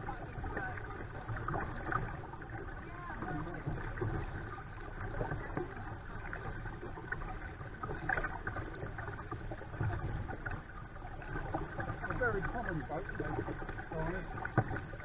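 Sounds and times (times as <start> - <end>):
water splashing along hull: 0.0 - 15.0.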